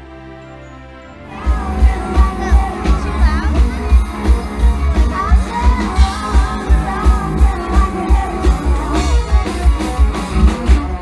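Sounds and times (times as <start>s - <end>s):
person singing: 1.2s - 11.0s
electric guitar: 1.3s - 11.0s
bass drum beat: 1.4s - 11.0s.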